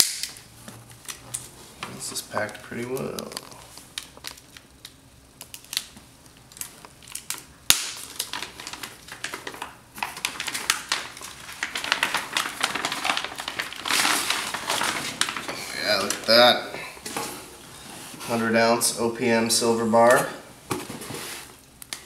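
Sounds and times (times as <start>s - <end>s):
packing material crinkling: 0.0s - 18.4s.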